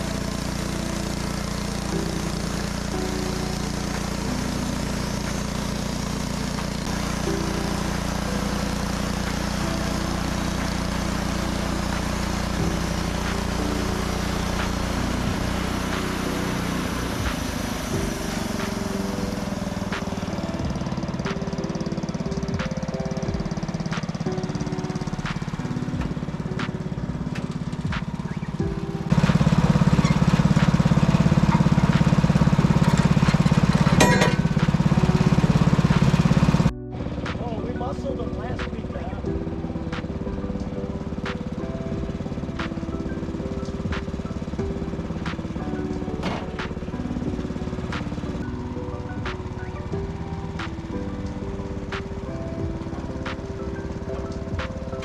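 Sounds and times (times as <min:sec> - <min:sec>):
sawmill gasoline engine running: 0:00.0 - 0:55.0.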